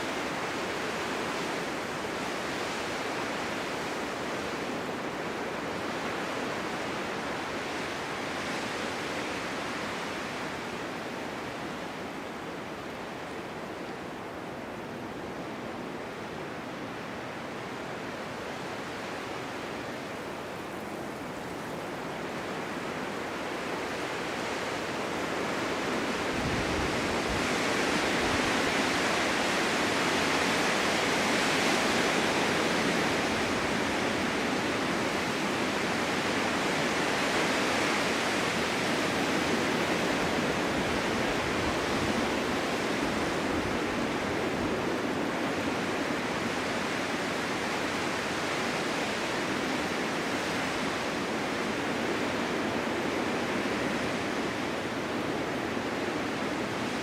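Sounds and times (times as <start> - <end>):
snowstorm wind blowing: 0.0 - 57.0.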